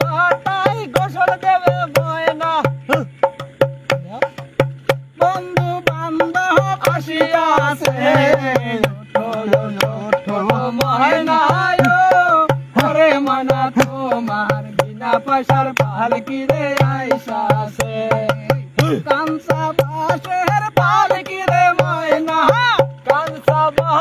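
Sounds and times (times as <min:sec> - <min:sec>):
man singing folk song: 0:00.0 - 0:03.2, 0:04.0 - 0:24.0
clay pot drumming: 0:00.0 - 0:24.0.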